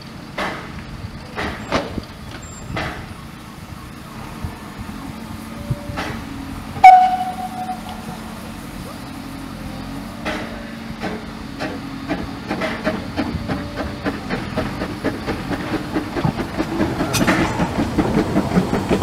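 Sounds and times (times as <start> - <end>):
steam locomotive chuffing: 0.0 - 19.0
wheels clicking over rails: 0.0 - 19.0
steam hiss: 0.2 - 19.0.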